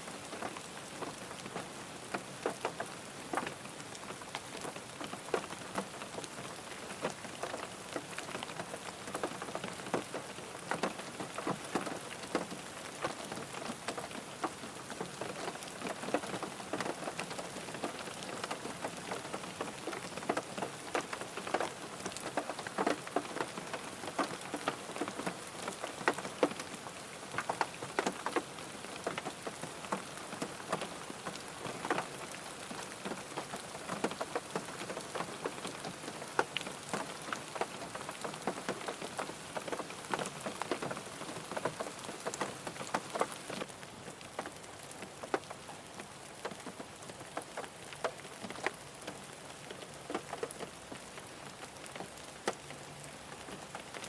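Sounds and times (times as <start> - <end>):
rain drops ticking on a car: 0.0 - 54.0
rain hiss: 0.0 - 54.0.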